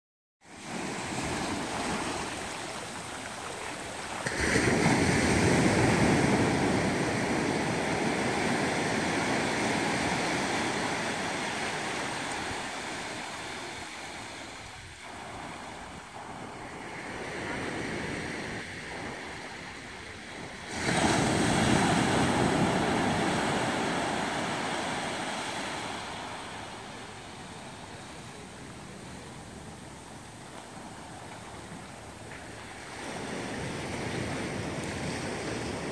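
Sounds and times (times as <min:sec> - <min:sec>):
ocean surf breaking on rocks: 0:00.5 - 0:35.9.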